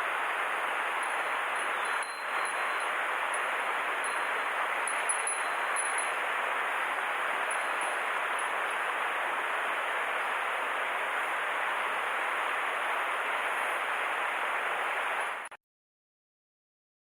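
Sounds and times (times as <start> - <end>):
stream water rushing: 0.0 - 15.5.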